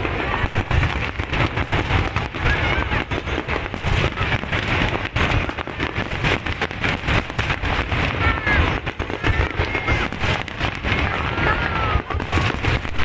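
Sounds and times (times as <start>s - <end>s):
fireworks crackling: 0.0s - 13.0s
fireworks low booms: 0.0s - 13.0s.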